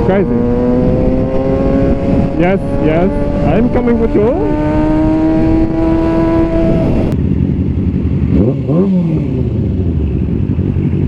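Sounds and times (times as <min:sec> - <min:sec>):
low engine rumble revving: 0:00.0 - 0:11.0.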